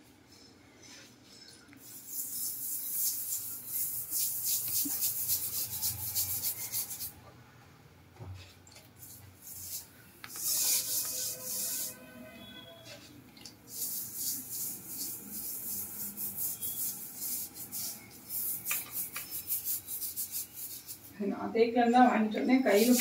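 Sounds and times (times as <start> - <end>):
brush scrubbing ceramic tiles: 1.4 - 7.2, 8.4 - 21.2, 22.6 - 23.0.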